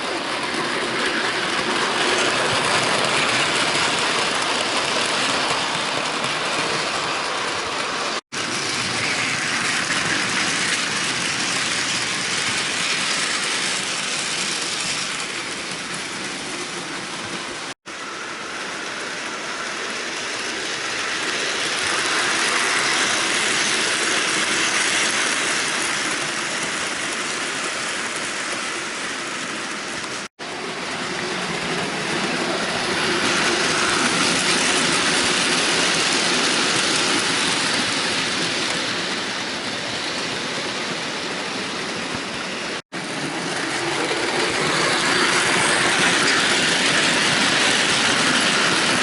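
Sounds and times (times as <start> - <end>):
electric locomotive motor whirring: 0.0 - 49.0
wheels rattling on track: 0.0 - 49.0.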